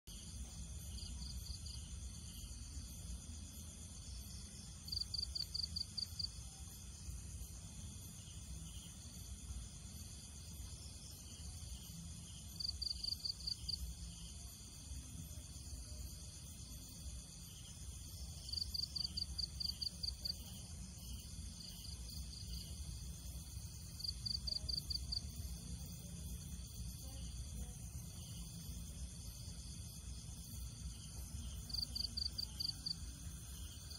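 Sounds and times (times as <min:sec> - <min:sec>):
insect chirping trills: 0:00.0 - 0:33.9.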